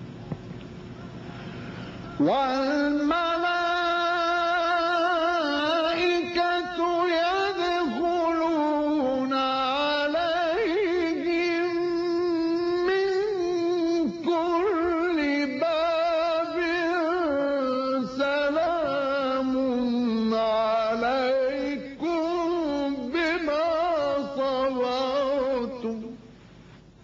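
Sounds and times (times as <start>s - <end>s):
man chanting recitation: 2.2s - 26.3s.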